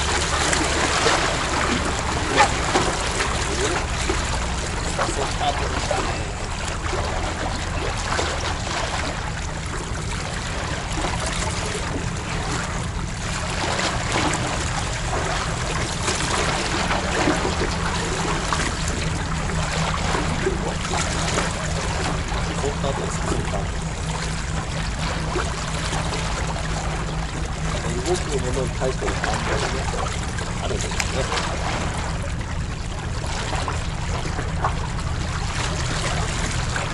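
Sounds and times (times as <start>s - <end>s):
seawater sloshing among concrete: 0.0s - 36.9s.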